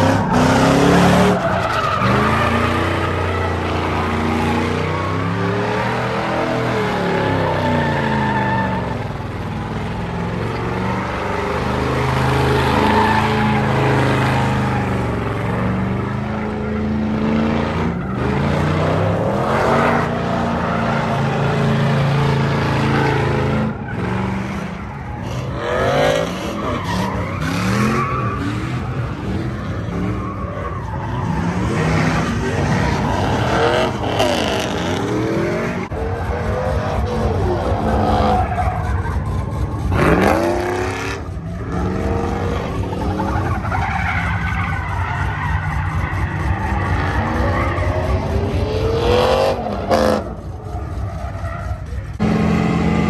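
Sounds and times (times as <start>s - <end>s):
tyres squealing on pavement: 0.0s - 52.6s
engines revving high: 0.0s - 53.0s.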